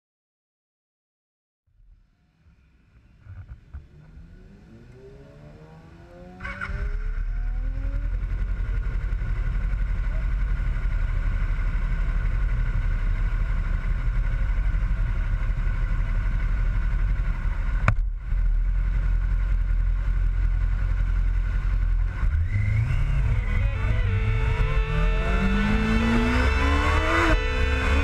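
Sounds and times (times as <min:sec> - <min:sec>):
motorcycle engine idling and revving: 0:01.8 - 0:28.0.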